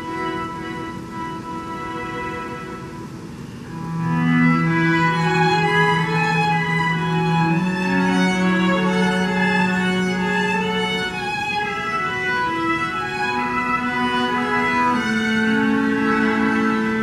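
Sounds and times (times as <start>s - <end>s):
string quartet bowing held chords: 0.0s - 17.0s.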